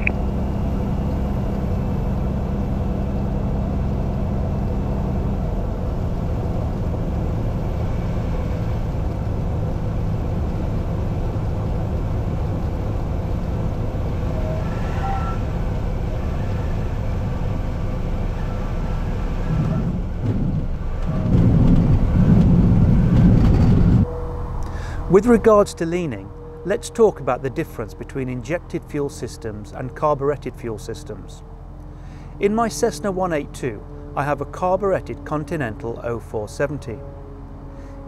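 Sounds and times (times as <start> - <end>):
plane engine and propeller: 0.0 - 38.0.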